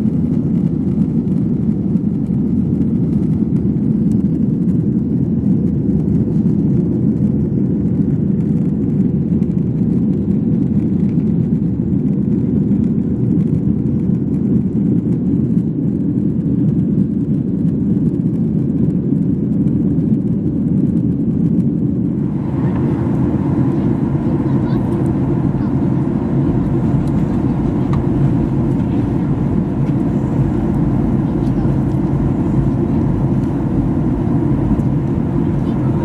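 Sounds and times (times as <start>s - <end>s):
jet engine cabin rumble: 0.0s - 36.0s.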